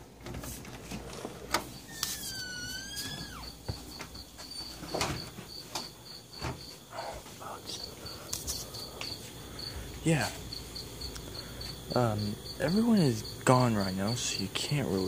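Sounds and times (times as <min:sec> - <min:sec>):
cricket chirping: 0:00.7 - 0:15.0.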